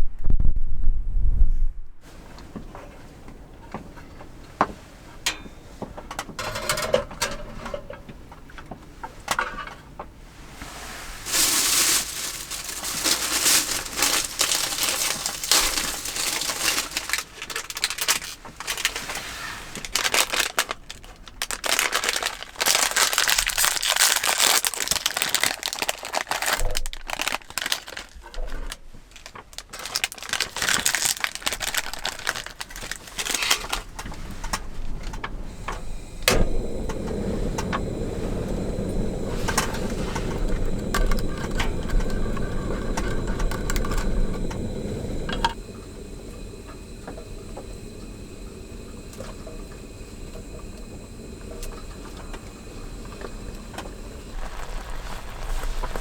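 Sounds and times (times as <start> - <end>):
rustling and crinkling: 2.0 - 44.6, 51.4 - 56.0.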